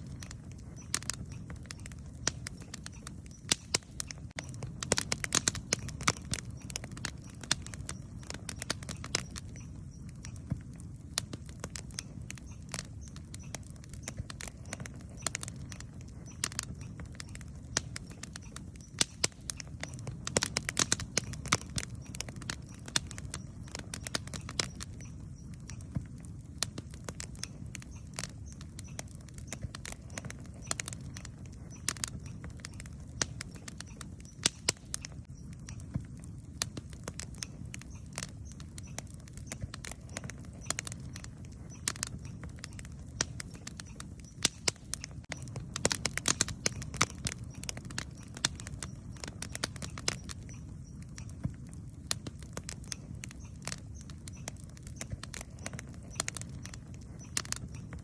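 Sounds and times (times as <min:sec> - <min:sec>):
campfire crackling and popping: 0:00.0 - 0:58.0
low rumble of burning fire: 0:00.0 - 0:58.0.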